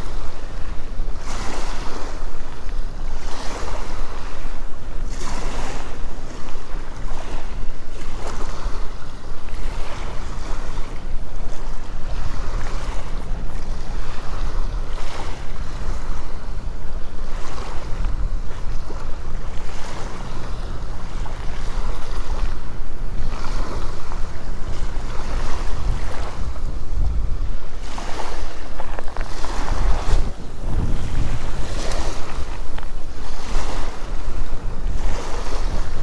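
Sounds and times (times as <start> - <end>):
small waves washing on beach: 0.0 - 36.0
wind buffeting microphone: 0.0 - 36.0.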